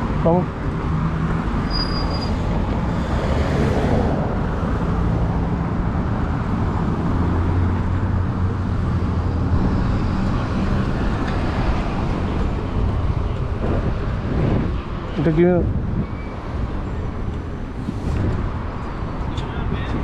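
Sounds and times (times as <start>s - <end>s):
street traffic: 0.0s - 20.0s
vehicle engine hum: 0.0s - 20.0s.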